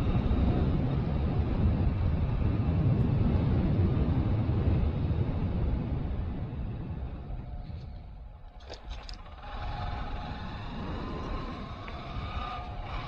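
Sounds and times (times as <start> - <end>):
road noise: 0.0 - 13.0
wind rumbling over microphone: 0.0 - 13.0.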